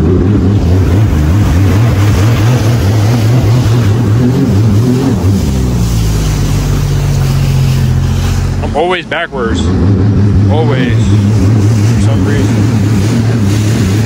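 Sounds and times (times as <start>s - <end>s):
water rushing past hull: 0.0s - 14.0s
watercraft engine running: 0.0s - 14.0s.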